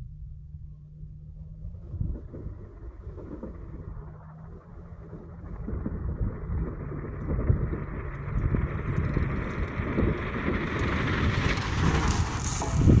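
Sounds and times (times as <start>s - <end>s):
truck driving over gravel: 1.4s - 13.0s.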